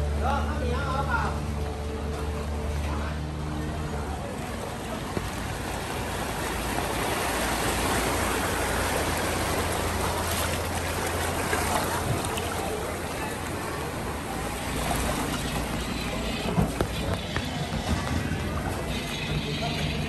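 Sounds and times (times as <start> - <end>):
floodwater rushing and splashing: 0.0 - 20.0.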